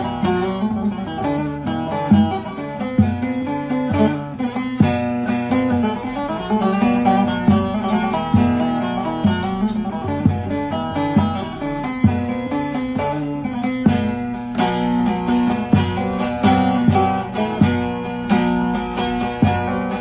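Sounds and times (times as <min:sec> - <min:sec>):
plucked lute melody: 0:00.0 - 0:20.0.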